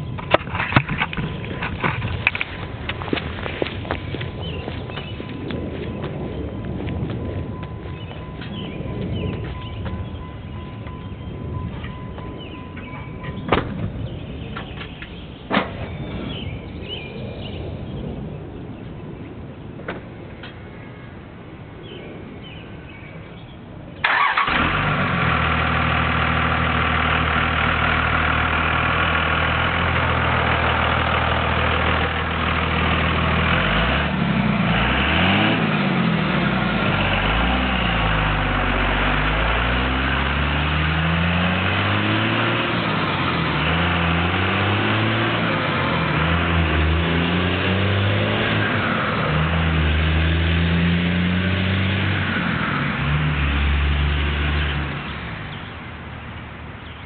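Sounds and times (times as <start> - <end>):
diesel engine idling and revving: 0.0 - 18.2, 24.0 - 57.0.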